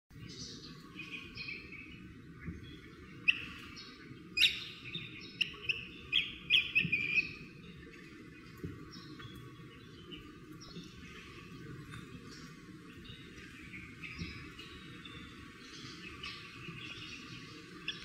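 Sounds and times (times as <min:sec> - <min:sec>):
birds chirping: 0:00.1 - 0:18.0.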